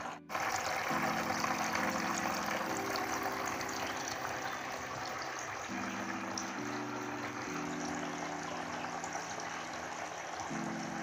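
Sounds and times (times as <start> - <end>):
fountain water trickling: 0.0 - 11.0
soft background music chords: 0.0 - 11.0.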